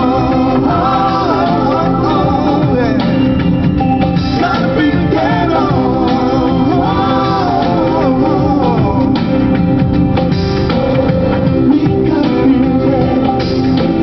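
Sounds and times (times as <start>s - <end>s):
band backing: 0.0s - 14.0s
guitar: 0.0s - 14.0s.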